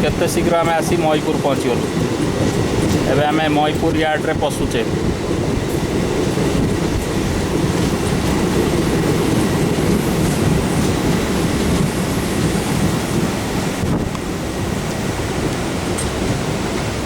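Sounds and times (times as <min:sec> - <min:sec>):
train clickety-clack: 0:00.0 - 0:17.0
train wheels rumbling on track: 0:00.0 - 0:17.0.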